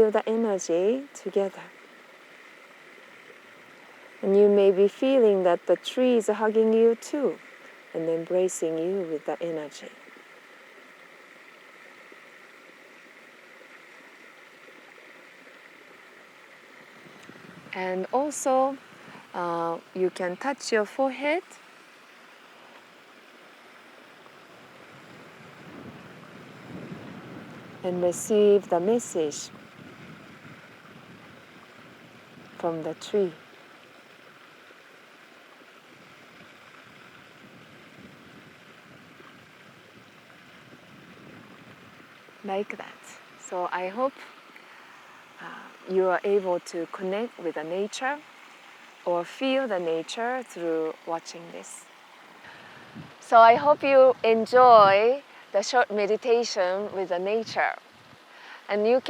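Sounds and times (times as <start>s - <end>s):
faint running water: 0.0s - 59.0s.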